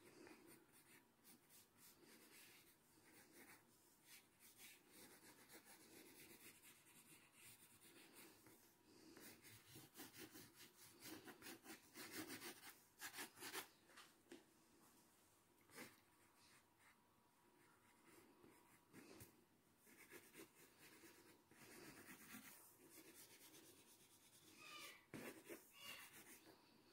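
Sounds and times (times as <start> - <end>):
pencil scratching on paper: 0.0 - 13.7, 15.7 - 17.0, 17.6 - 26.6.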